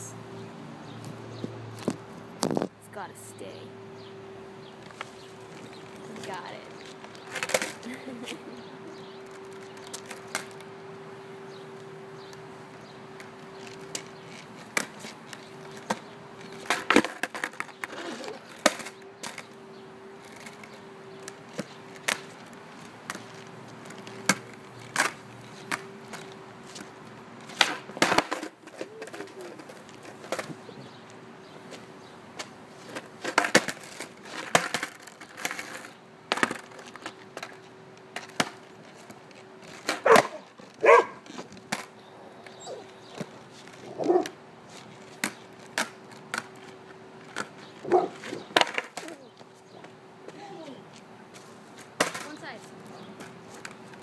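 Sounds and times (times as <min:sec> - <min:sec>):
skateboard clattering on asphalt: 0:04.6 - 0:10.8, 0:11.5 - 0:54.0.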